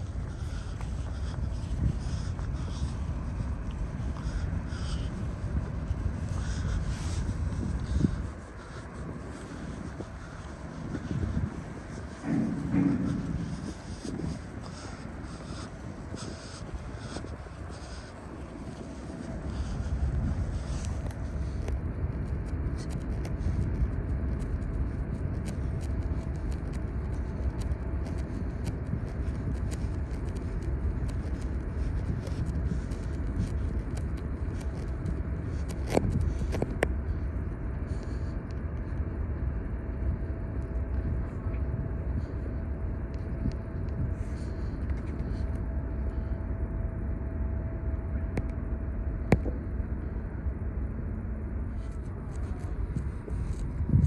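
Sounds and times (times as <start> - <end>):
ferry machinery rumble: 0.0 - 54.0.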